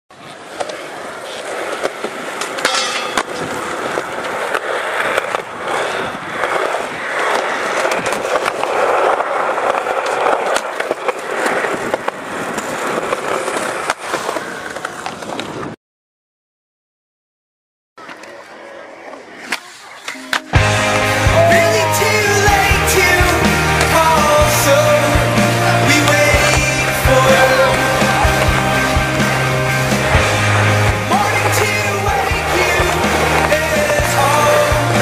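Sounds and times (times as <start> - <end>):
skateboard wheels rolling on concrete: 0.1 - 15.8, 18.0 - 35.0.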